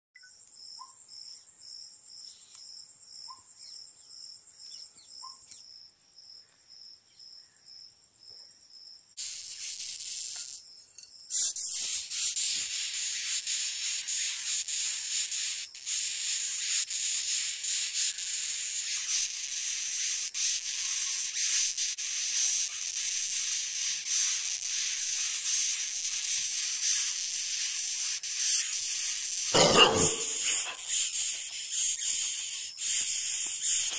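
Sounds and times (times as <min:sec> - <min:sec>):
beetle stridulating rasping hiss: 0:00.4 - 0:33.9.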